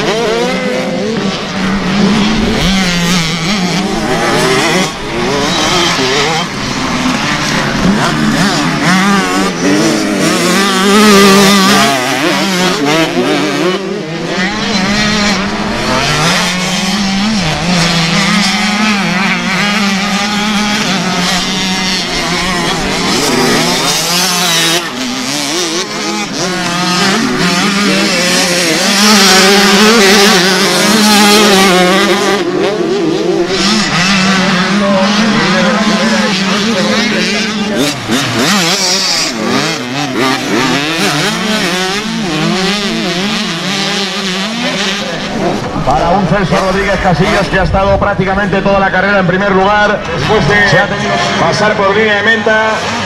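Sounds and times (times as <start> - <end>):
minibike engines revving: 0.0 - 53.0.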